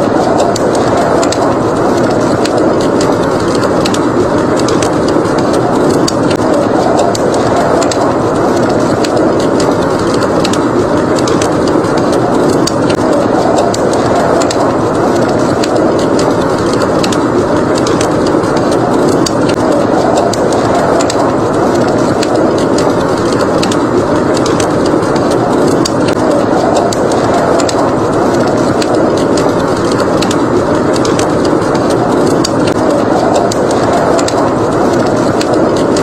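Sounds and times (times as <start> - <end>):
blizzard wind blowing: 0.0 - 36.0
wood fire crackling: 0.0 - 36.0.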